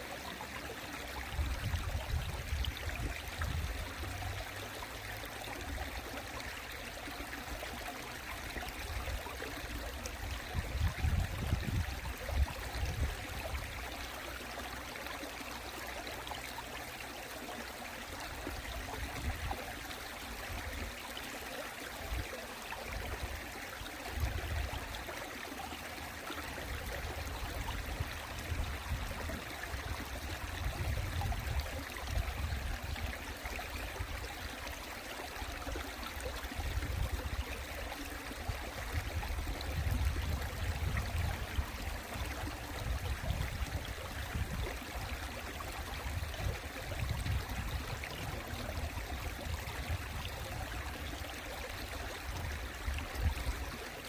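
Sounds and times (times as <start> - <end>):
stream water flowing over rocks: 0.0 - 54.0.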